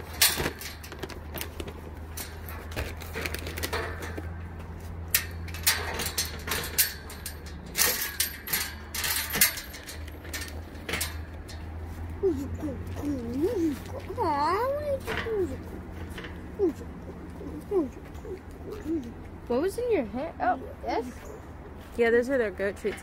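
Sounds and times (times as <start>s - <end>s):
goats crunching treats: 0.0s - 19.4s.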